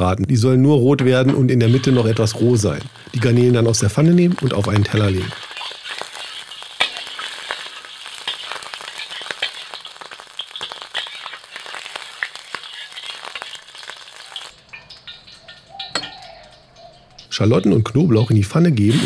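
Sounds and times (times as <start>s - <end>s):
prawns sizzling in hot oil: 0.6s - 19.0s.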